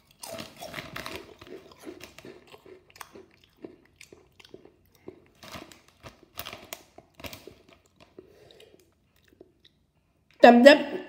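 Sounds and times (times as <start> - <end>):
crunching and chewing snacks: 0.0 - 10.4.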